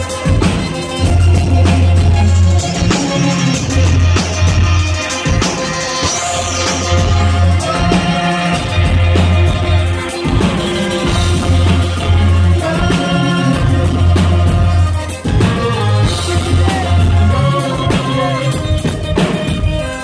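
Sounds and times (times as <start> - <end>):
long loud bass notes: 0.0 - 19.2
drum kit beat: 0.0 - 20.0.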